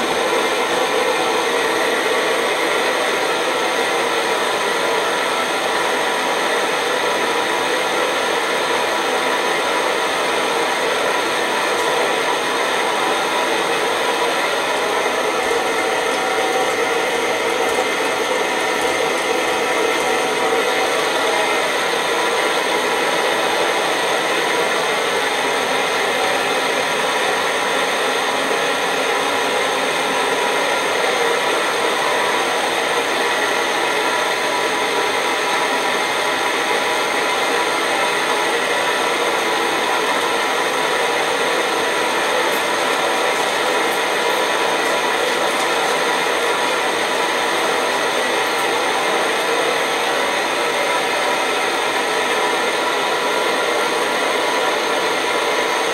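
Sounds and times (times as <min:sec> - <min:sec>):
stove burner roaring: 0:00.0 - 0:55.9.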